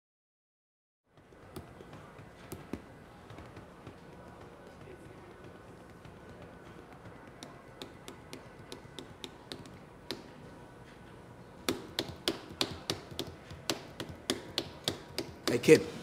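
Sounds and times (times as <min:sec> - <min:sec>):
rhythmic tapping: 0:01.1 - 0:10.4, 0:11.6 - 0:15.8.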